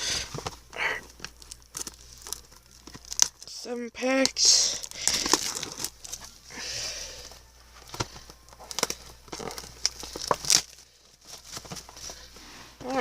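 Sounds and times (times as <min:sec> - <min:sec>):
foil packs crinkling: 0:00.0 - 0:13.0.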